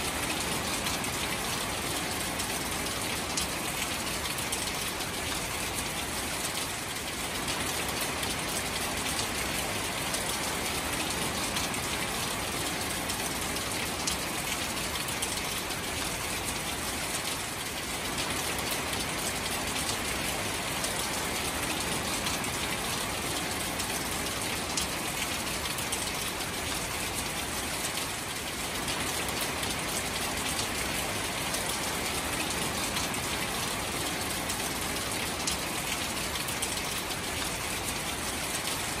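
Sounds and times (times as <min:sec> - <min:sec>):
rain falling on shallow water: 0:00.0 - 0:39.0.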